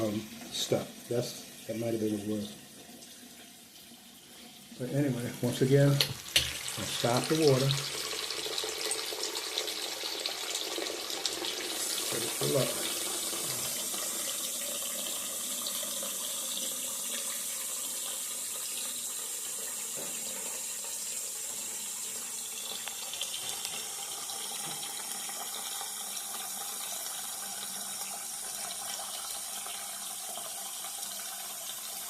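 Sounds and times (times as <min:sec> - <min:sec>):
faucet running into sink: 0:00.0 - 0:32.0.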